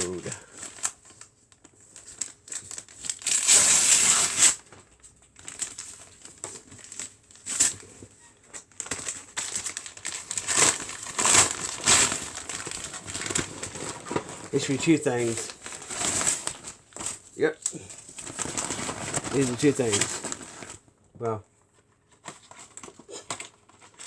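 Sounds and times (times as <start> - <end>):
packaging tearing and rustling: 0.0 - 20.8, 22.0 - 24.0.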